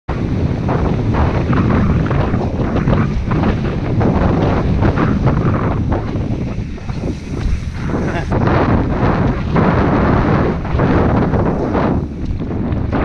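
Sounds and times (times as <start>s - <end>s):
bike rattling over bumps: 0.1s - 13.0s
tyres rumbling on dirt: 0.1s - 13.0s
wind buffeting microphone: 0.1s - 13.0s.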